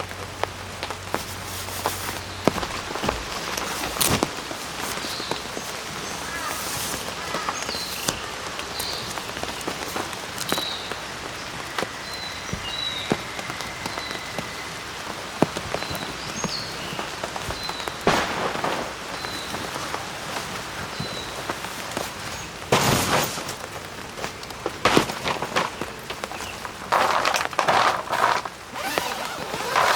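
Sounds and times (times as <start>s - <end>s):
rain pattering: 0.0s - 29.9s.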